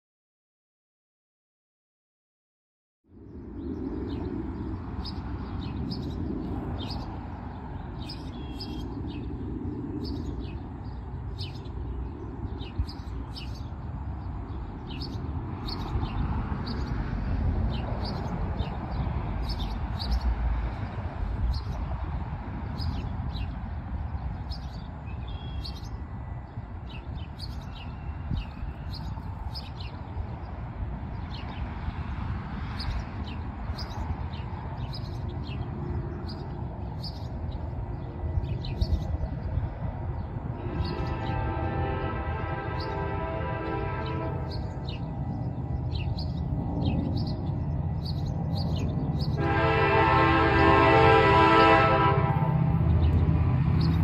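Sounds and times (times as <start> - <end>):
small birds chirping: 3.3 - 32.0, 32.6 - 41.3, 44.0 - 49.4, 52.8 - 54.0.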